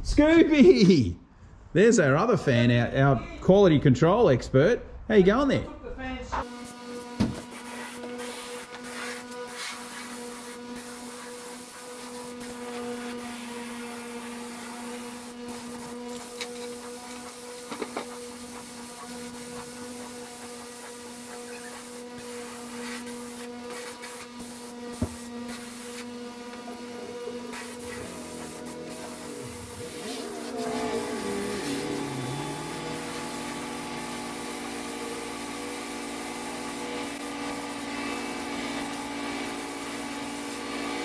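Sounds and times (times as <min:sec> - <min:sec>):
air spray gun hissing: 0:06.4 - 0:41.0.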